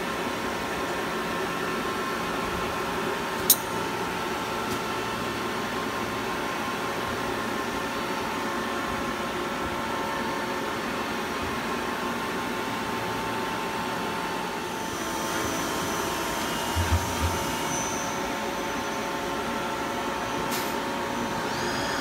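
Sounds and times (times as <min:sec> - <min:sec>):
machine mechanical hum: 0:00.0 - 0:22.0.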